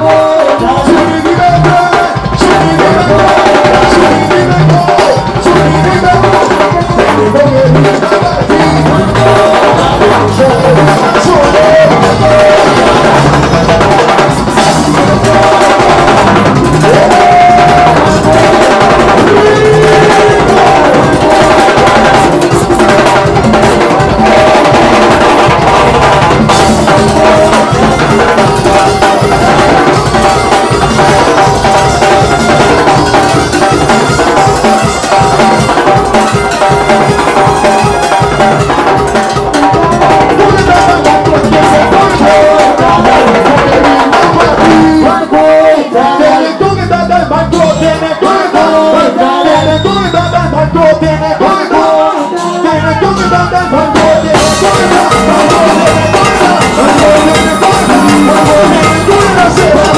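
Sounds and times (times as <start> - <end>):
drum kit and timbales: 0.0 - 59.9
live band music: 0.0 - 59.9.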